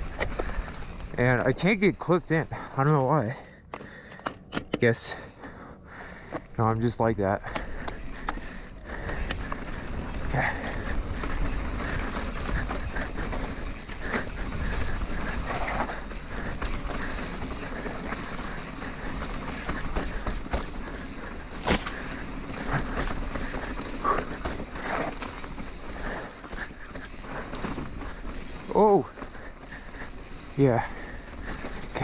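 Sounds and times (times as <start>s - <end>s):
tyres rolling over dirt: 0.0s - 3.9s, 6.1s - 32.0s
bike rattling and knocking: 0.0s - 32.0s.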